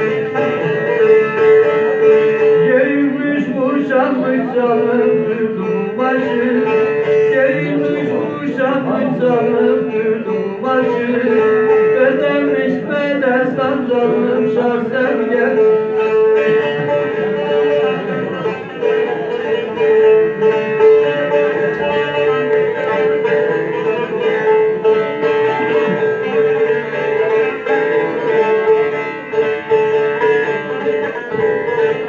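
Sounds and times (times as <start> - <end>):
plucked long-necked lute: 0.0 - 32.0.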